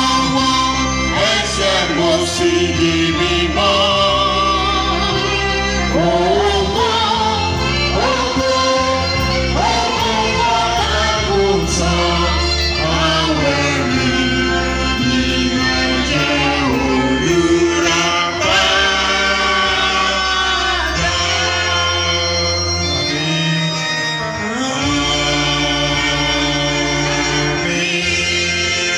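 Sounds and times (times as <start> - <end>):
choir singing gospel: 0.0 - 28.9
held keyboard chords: 0.0 - 28.9
man singing into microphone: 0.0 - 28.9.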